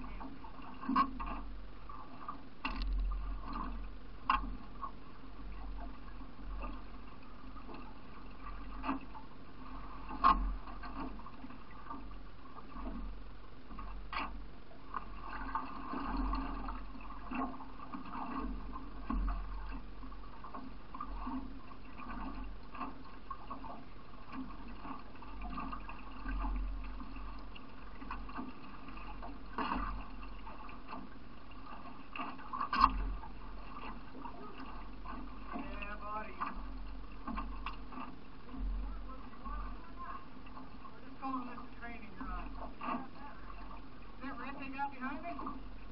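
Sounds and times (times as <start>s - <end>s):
water rushing around canoe: 0.0s - 45.9s.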